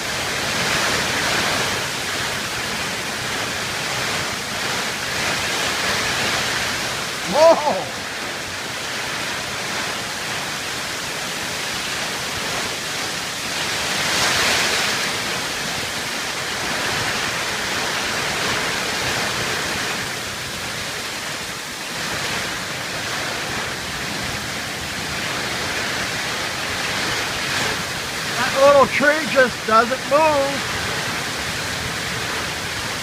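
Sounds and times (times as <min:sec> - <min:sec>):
gusting wind: 0:00.0 - 0:33.0
heavy rain: 0:00.0 - 0:33.0.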